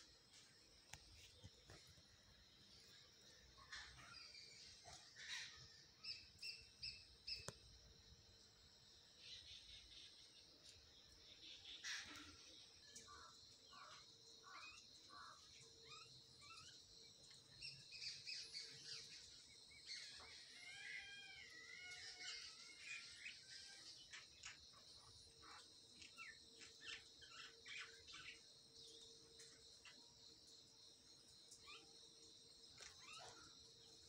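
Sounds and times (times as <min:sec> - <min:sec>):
faint birds chirping: 0:00.0 - 0:34.0
insect drone: 0:00.0 - 0:34.0.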